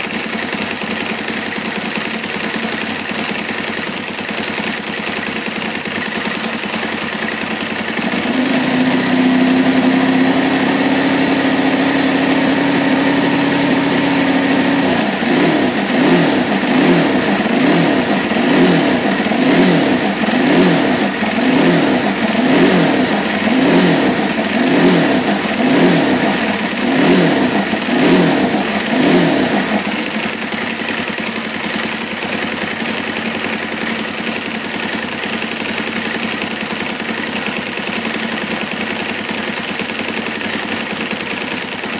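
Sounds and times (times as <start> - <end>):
engine idling and revving: 0.0 - 41.9.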